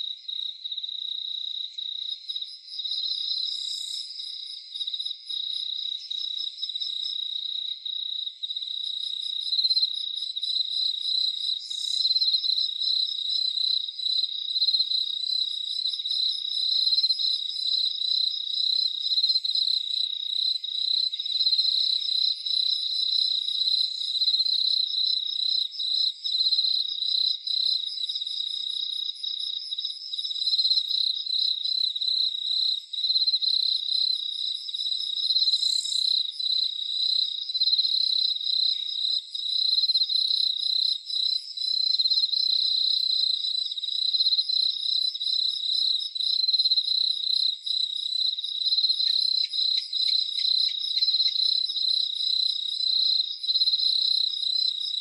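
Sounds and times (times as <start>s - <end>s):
crickets chirping: 0.0s - 55.0s
high pulsing insect call: 0.0s - 55.0s.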